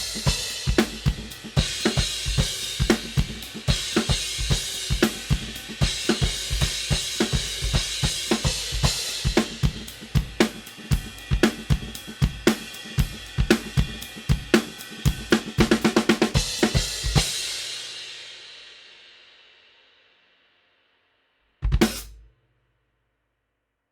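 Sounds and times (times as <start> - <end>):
drum kit groove: 0.0 - 18.7, 21.6 - 22.3.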